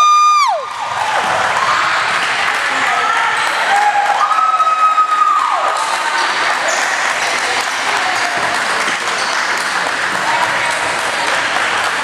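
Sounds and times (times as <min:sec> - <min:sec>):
spectators applauding: 0:00.0 - 0:12.0.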